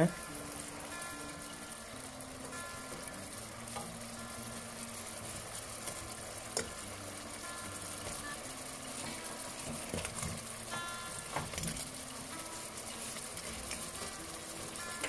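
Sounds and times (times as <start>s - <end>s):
sauce bubbling and sizzling: 0.0s - 15.0s.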